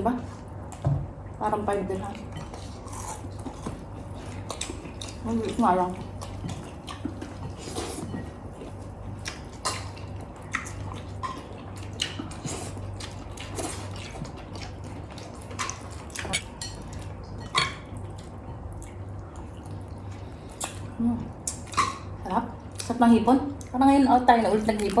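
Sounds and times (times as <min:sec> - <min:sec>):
low steady hum: 0:00.0 - 0:25.0
chewing food: 0:01.9 - 0:23.8.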